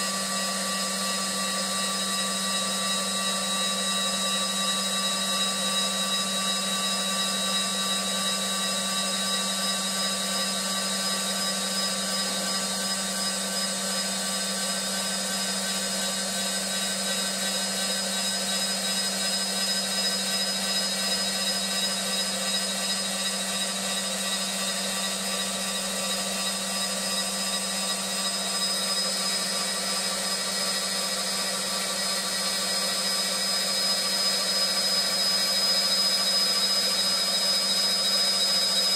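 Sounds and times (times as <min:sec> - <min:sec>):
wood lathe motor whine: 0:00.0 - 0:38.9.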